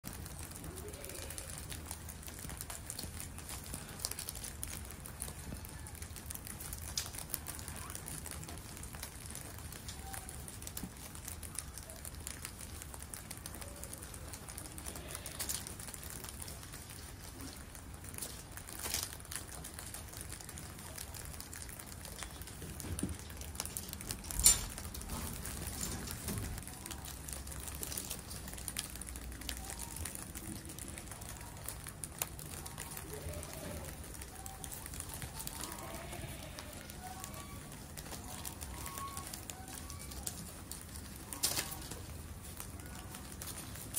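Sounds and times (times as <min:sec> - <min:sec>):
guinea pigs munching leaves: 0:00.0 - 0:43.9
leaves rustling: 0:00.0 - 0:43.9.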